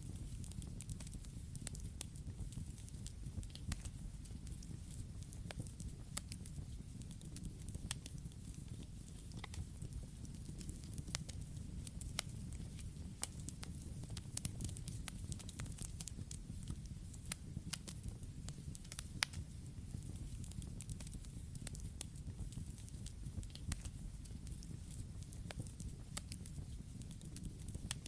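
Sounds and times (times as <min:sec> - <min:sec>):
campfire crackling: 0:00.0 - 0:28.0
burning wood popping: 0:00.2 - 0:28.0.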